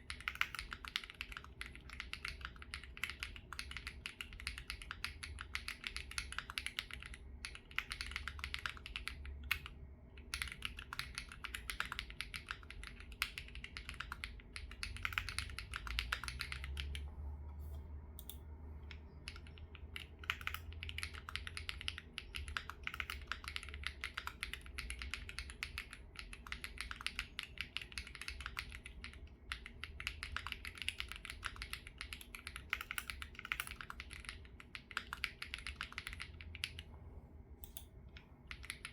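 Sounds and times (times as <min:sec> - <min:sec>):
mechanical keyboard typing: 0:00.0 - 0:17.1, 0:18.2 - 0:36.9, 0:37.6 - 0:38.9.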